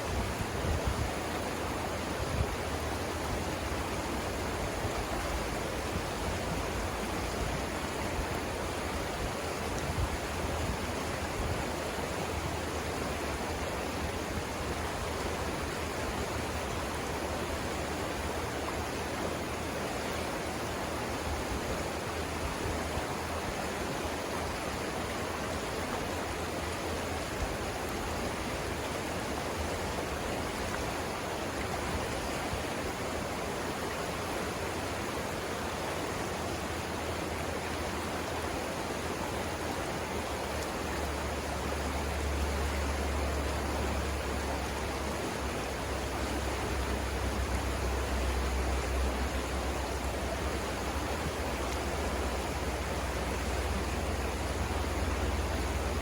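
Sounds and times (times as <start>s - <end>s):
river water rushing over rapids: 0.0s - 56.0s.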